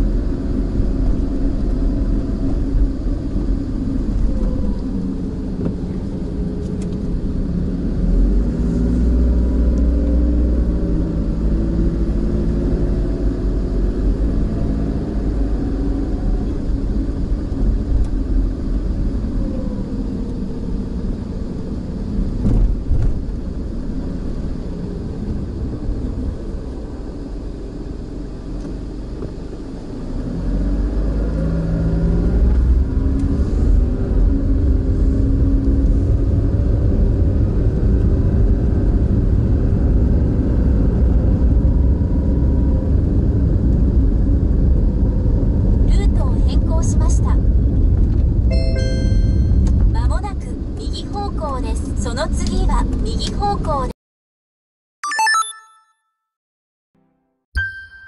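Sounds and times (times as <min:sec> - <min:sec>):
car engine from inside cabin: 0:00.0 - 0:53.8
road noise: 0:00.0 - 0:53.9.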